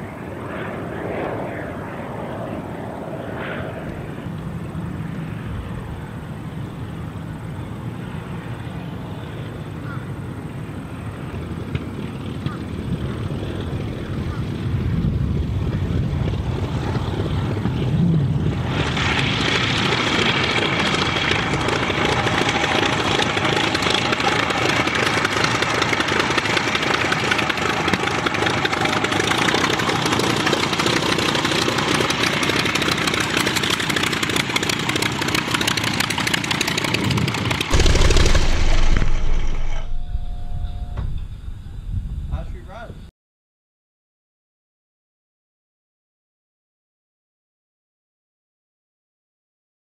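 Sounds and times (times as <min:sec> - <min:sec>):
aircraft radial engine and propeller: 0:00.0 - 0:42.8.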